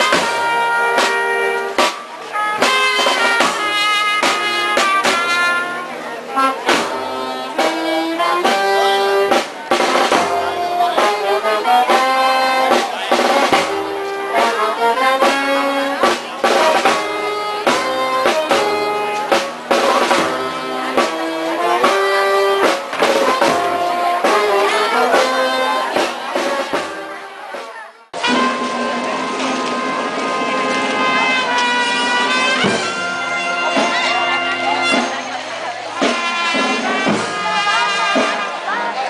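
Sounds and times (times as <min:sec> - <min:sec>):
drum strokes: 0:00.0 - 0:38.8
brass band playing a march: 0:00.0 - 0:39.0.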